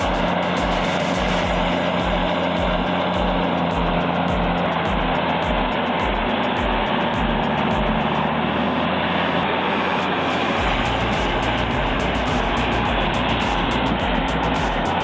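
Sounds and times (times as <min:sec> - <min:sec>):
background music with beat: 0:00.0 - 0:15.0.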